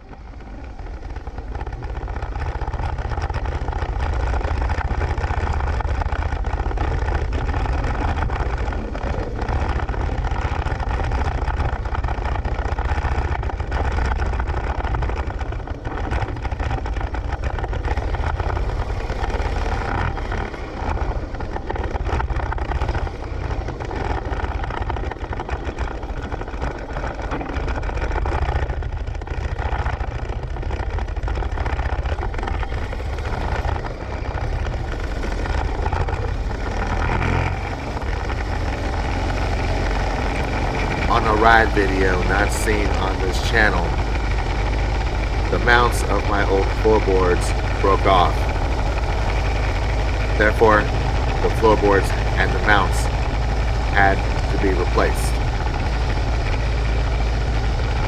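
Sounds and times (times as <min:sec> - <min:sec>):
motorcycle engine idling: 0:00.0 - 0:58.0
motorcycle engine running: 0:00.0 - 0:58.0
road and wind noise: 0:00.0 - 0:58.0.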